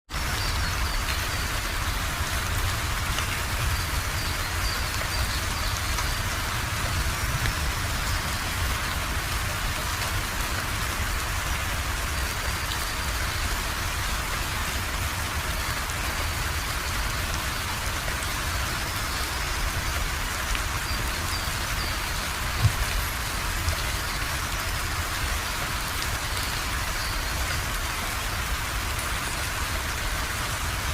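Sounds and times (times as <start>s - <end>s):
rain pattering: 0.1s - 30.9s.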